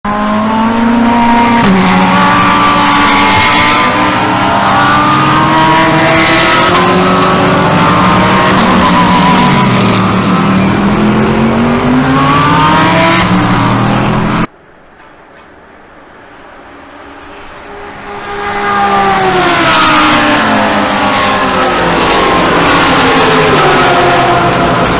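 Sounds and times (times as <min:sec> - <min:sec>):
race cars passing at speed: 0:00.1 - 0:14.5, 0:16.5 - 0:24.9.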